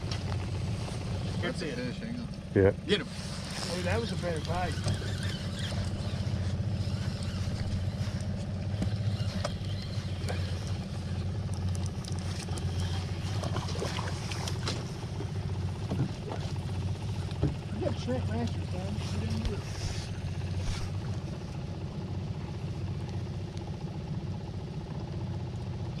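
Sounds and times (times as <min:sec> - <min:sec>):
outboard motor idling: 0:00.0 - 0:26.0.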